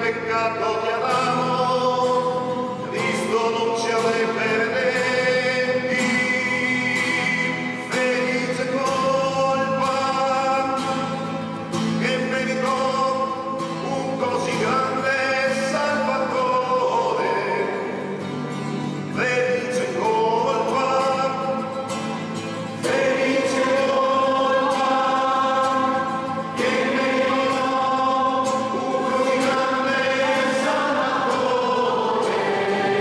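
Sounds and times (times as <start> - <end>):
man singing: 0.0 - 18.3, 18.9 - 33.0
acoustic guitar accompaniment: 0.0 - 33.0.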